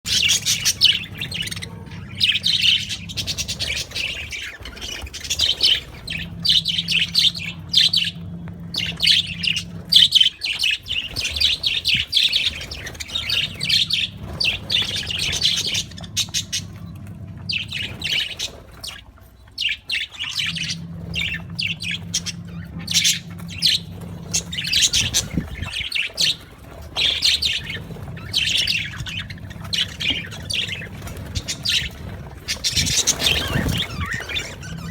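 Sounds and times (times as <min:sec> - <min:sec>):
budgerigars chirping and chattering: 0:00.1 - 0:34.9
low steady hum: 0:00.1 - 0:34.9.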